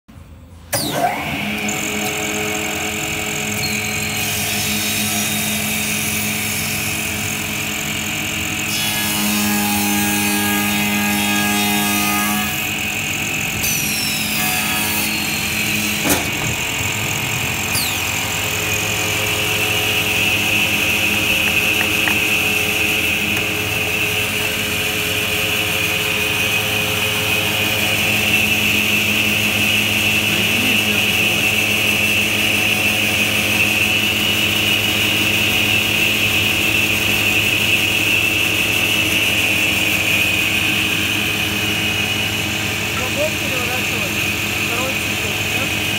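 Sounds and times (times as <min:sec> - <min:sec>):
woodworking machine hum and whine: 0:00.2 - 0:45.9.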